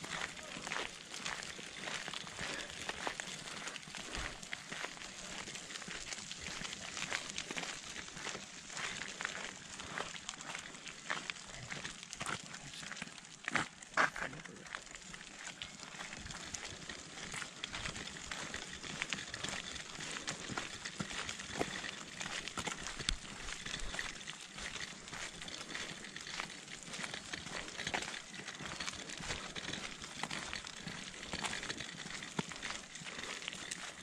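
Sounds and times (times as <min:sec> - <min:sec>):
footsteps crunching on gravel: 0:00.0 - 0:34.0.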